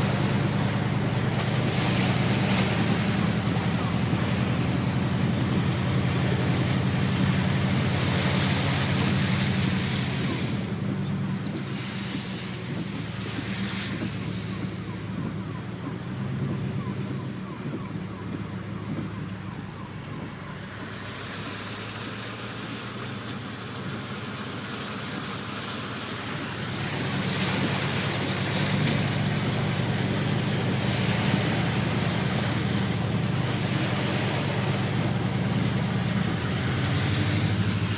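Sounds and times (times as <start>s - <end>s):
low engine hum: 0.0s - 37.9s.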